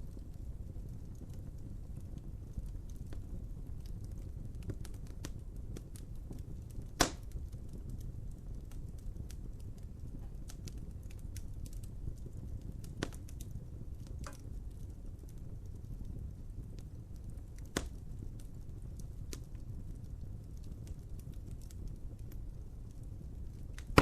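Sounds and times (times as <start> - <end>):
fire popping: 0.0 - 24.0
low rumble of flame: 0.0 - 24.0
wood fire crackling: 0.0 - 24.0.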